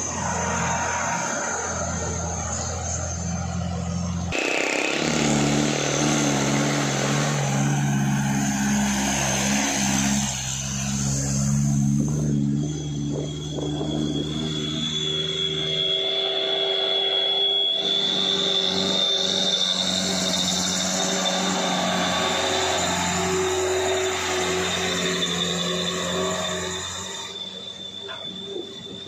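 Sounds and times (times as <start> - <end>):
diesel truck engine labouring: 0.0 - 29.0.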